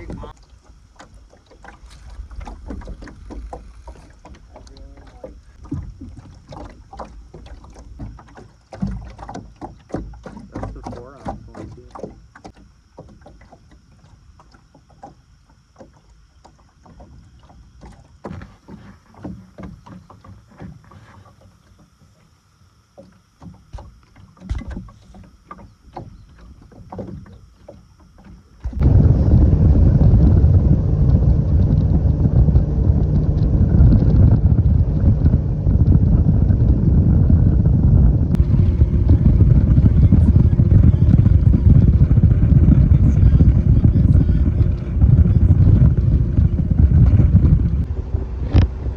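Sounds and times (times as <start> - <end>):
boat motor rumbling: 0.0 - 48.9.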